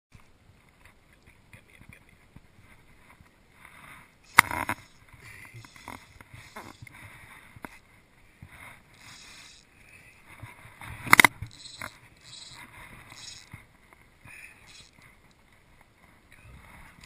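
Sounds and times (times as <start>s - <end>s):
gear rustling and shifting: 2.6s - 17.0s.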